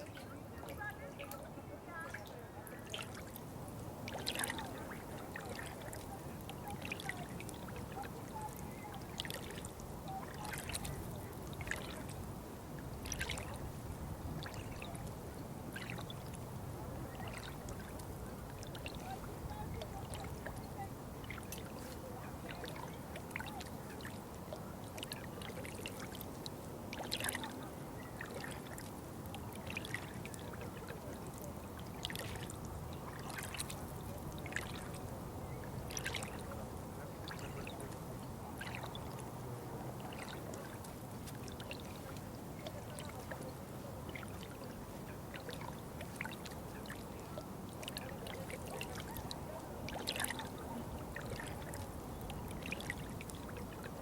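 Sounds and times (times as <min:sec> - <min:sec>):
small splashes and drips: 0:00.1 - 0:12.2, 0:12.9 - 0:13.6, 0:14.4 - 0:16.4, 0:17.0 - 0:54.0
water trickling and pouring: 0:02.0 - 0:12.2, 0:13.0 - 0:13.6, 0:17.0 - 0:53.9.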